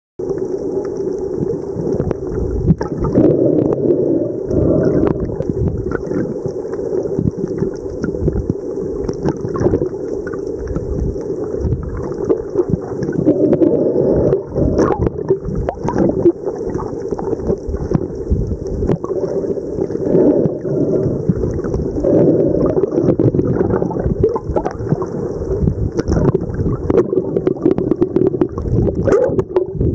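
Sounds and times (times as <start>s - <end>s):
underwater crackling and clicks: 0.2s - 29.9s
underwater low rumble: 0.2s - 29.9s.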